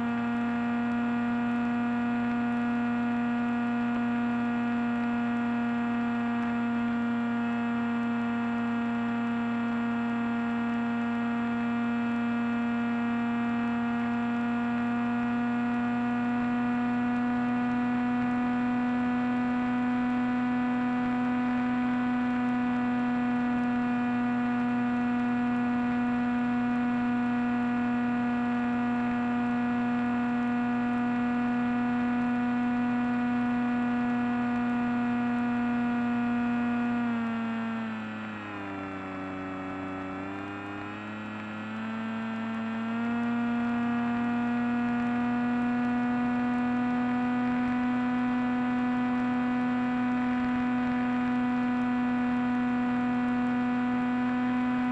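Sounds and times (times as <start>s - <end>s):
electric motor and propeller droning: 0.0s - 54.9s.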